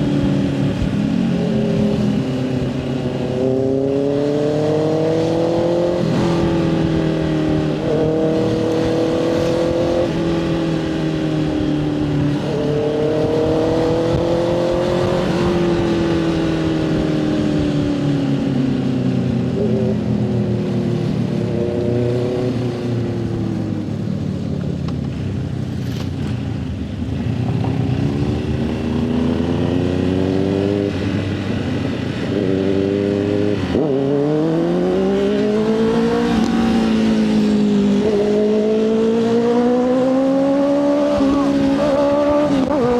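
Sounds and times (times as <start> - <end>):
motorcycle engine shifting gears: 0.0 - 42.9
wind and road rush: 0.0 - 42.9.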